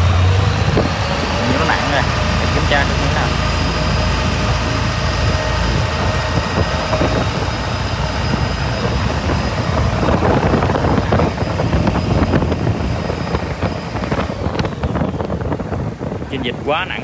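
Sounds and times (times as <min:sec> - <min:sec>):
boat engine drone: 0:00.0 - 0:17.0
wind: 0:00.0 - 0:17.0.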